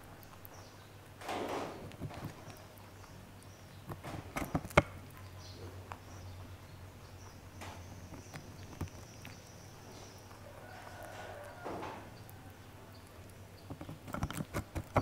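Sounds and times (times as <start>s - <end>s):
rabbit crunching vegetable: 0.0s - 15.0s.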